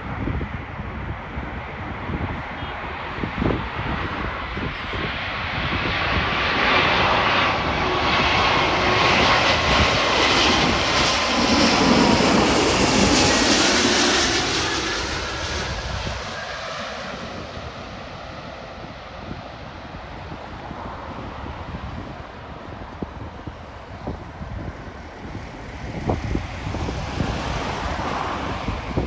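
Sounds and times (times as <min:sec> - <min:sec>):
jet airliner engine roar: 0:00.0 - 0:29.0
jet engine whine: 0:00.0 - 0:29.0.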